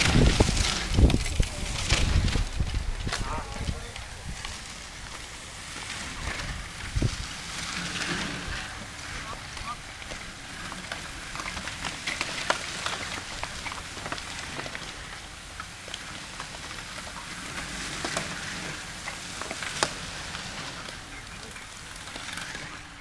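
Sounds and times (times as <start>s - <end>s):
bicycle clicks and ticks: 0.0s - 23.0s
bicycle tyres crackling on gravel: 0.0s - 23.0s.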